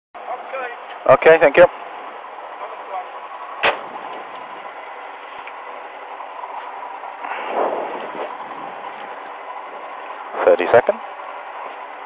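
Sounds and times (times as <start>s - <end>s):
car engine idling: 0.2s - 12.0s.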